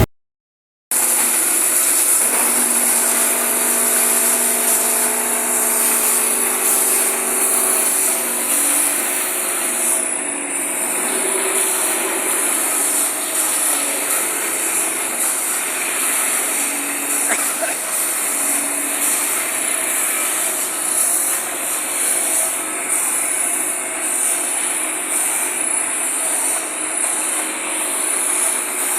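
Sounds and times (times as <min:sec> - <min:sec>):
sanding machine whirring: 0:01.0 - 0:28.9.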